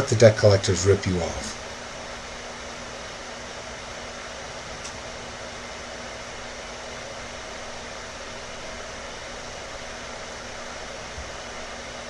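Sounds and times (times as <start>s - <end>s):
faint low hum: 0.0s - 12.0s
steady hiss: 0.0s - 12.0s.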